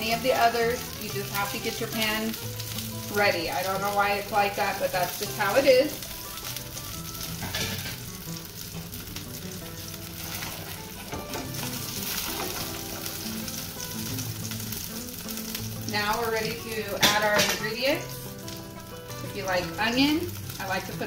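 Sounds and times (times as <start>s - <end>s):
tortilla sizzling in oil: 0.0s - 21.0s.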